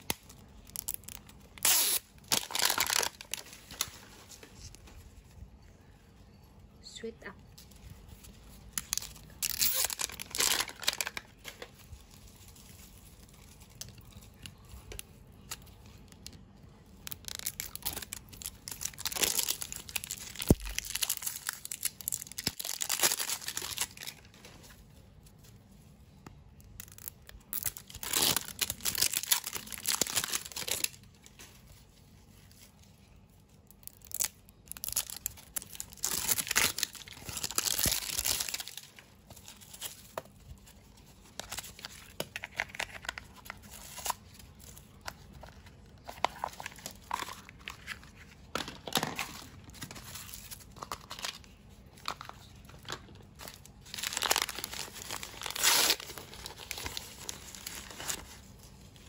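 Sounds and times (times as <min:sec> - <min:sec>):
plastic wrappers crinkling and tearing: 0:00.0 - 0:05.5, 0:07.4 - 0:59.0.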